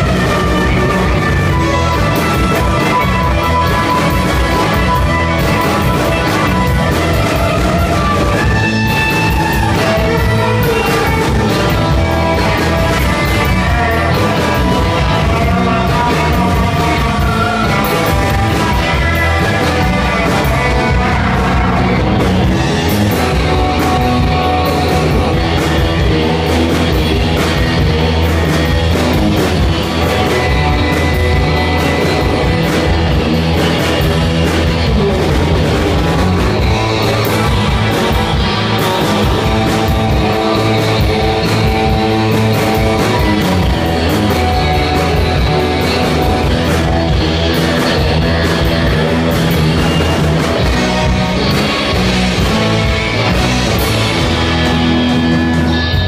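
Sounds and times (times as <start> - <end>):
electric guitars: 0.0 - 56.0
steady drum beat: 0.0 - 56.0.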